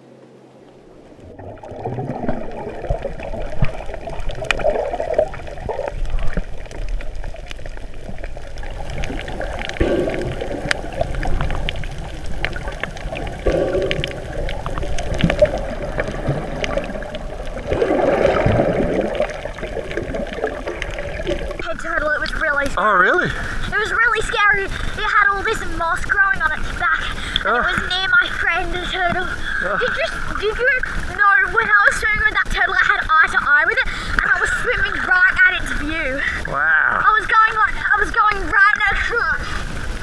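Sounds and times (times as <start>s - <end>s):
muffled underwater gurgling: 0.0s - 40.0s.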